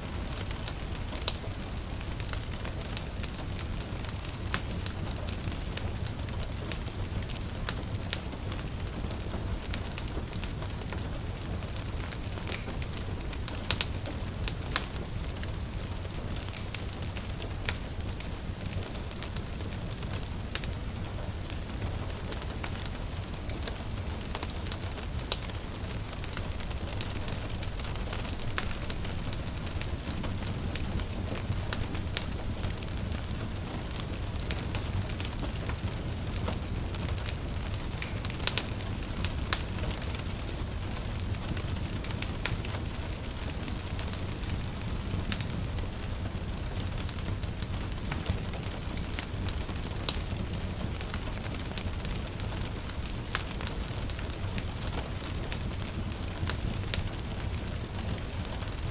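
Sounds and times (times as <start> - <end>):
gentle rain patter: 0.0 - 58.9
wood fire crackling and popping: 0.0 - 58.9.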